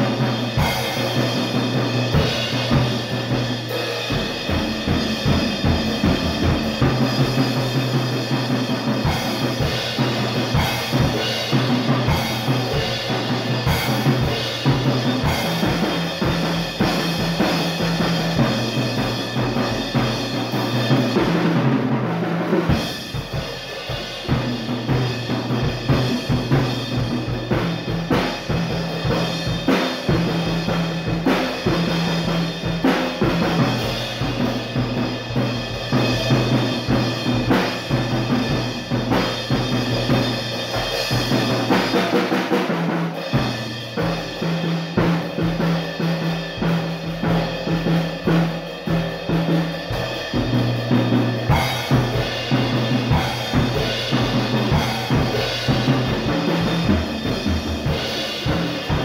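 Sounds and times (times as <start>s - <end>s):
drum kit fills: 0.0s - 59.0s.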